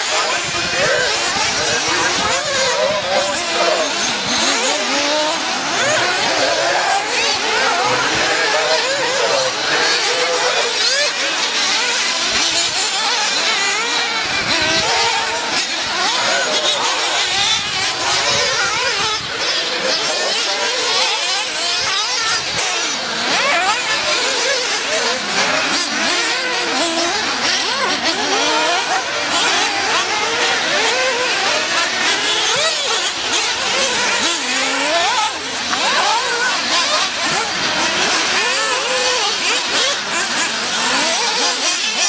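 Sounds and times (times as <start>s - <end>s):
small engines whining: 0.0s - 42.0s.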